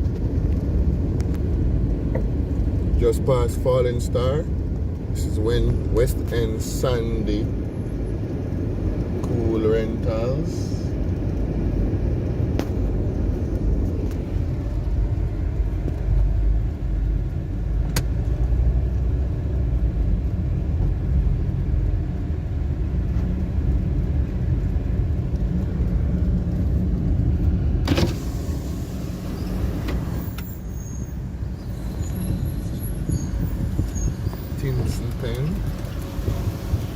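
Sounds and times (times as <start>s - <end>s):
car engine and road noise: 0.0s - 36.9s.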